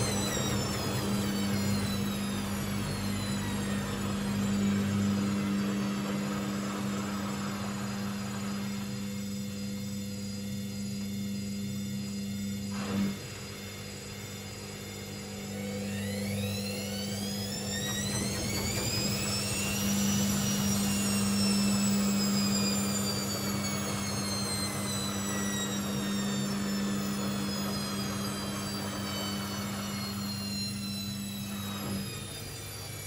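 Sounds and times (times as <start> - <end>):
washing machine drum motor whining: 0.0 - 33.0.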